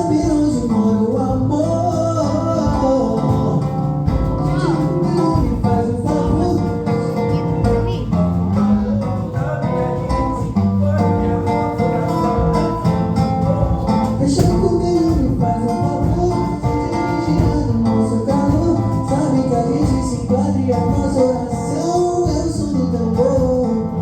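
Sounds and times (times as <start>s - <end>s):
person singing: 0.0s - 23.8s
strummed acoustic guitar: 0.0s - 24.0s.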